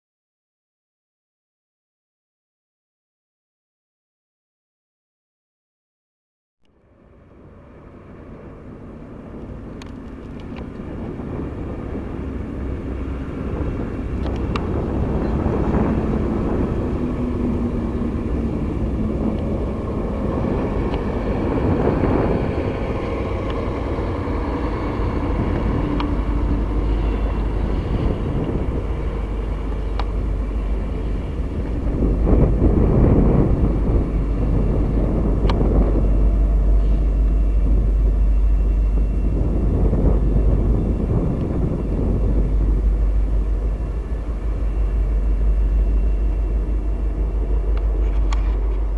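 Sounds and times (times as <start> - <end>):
diesel locomotive engines running: 6.6 - 48.9.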